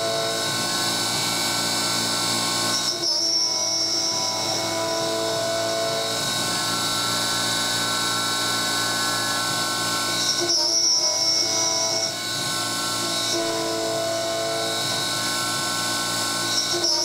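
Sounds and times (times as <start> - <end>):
mill spindle whine: 0.0 - 17.0.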